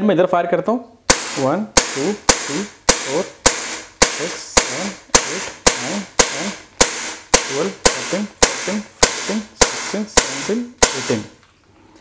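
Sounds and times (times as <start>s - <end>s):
bb pistol shots: 1.1s - 11.4s.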